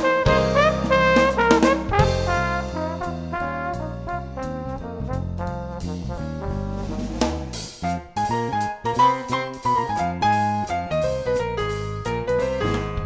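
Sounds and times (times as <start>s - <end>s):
drum hits: 0.0s - 13.0s
stepping bass line: 0.0s - 13.0s
upbeat jazzy brass tune: 0.0s - 13.0s.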